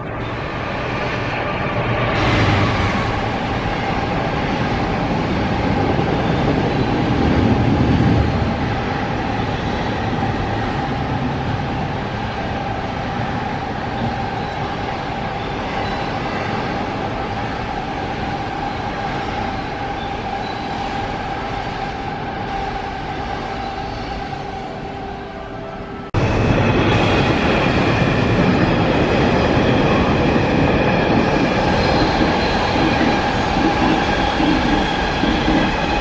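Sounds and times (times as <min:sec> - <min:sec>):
freight train passing: 0:00.0 - 0:36.0.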